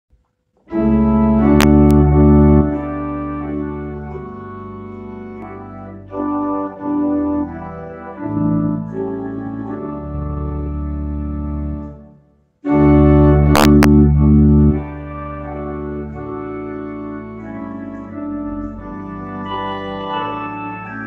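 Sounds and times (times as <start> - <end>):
organ playing sustained chords: 0.6 - 21.0.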